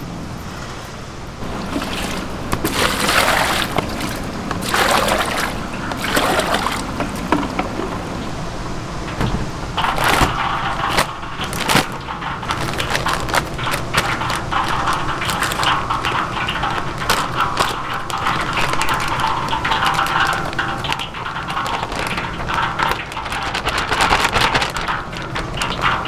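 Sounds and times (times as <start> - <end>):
food sizzling: 1.4 - 26.0
utensils clacking against pans: 1.4 - 26.0.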